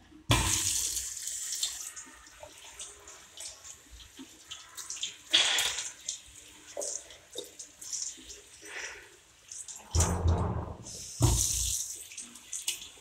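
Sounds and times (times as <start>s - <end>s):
tap water running into a steel sink: 0.2s - 13.0s.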